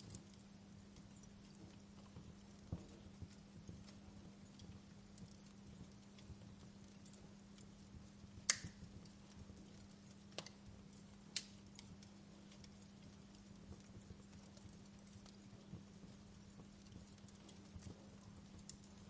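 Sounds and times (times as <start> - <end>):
faint low hum: 0.0 - 19.0
wood fire crackling and popping: 0.0 - 19.0.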